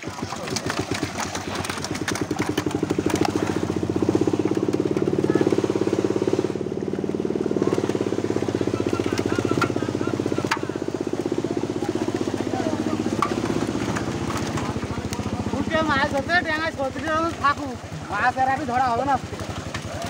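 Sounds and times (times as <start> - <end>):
fish splashing in net: 0.0 - 20.0
small engine puttering: 0.0 - 20.0.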